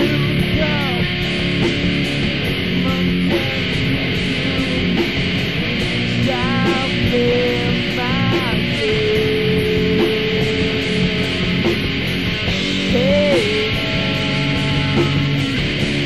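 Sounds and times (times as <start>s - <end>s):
distorted electric guitars: 0.0s - 16.0s
high lead guitar line: 0.0s - 16.0s.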